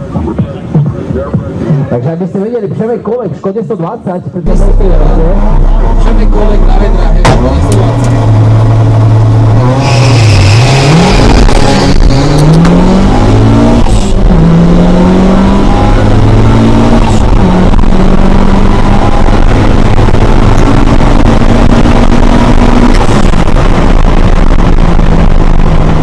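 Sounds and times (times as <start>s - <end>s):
car engines revving through gears: 4.4s - 26.0s.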